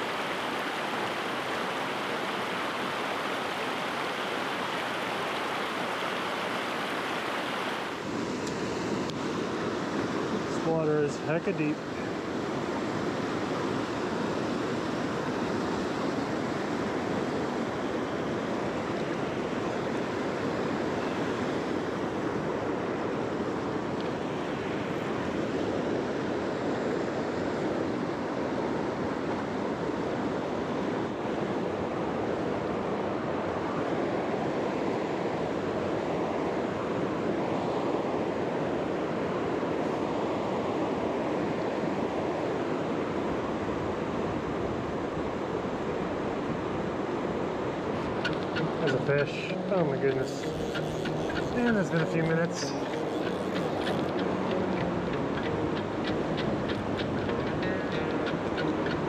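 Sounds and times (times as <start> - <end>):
river rapids rushing over boulders: 0.0 - 28.8, 30.2 - 59.0.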